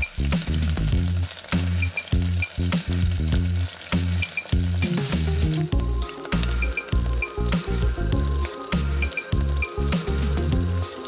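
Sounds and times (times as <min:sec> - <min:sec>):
music with heavy bass: 0:00.0 - 0:11.0
potatoes sizzling in oil: 0:00.0 - 0:11.0.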